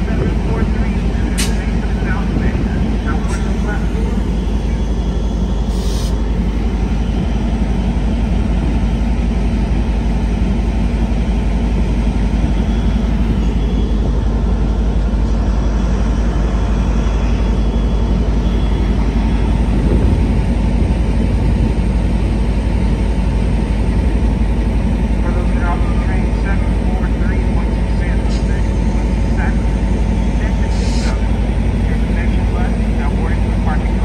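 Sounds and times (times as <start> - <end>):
diesel locomotive engine droning: 0.0 - 34.0.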